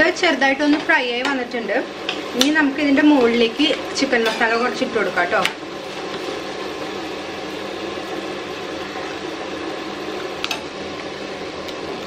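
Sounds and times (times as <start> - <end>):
eggs sizzling in a frying pan: 0.0 - 12.0.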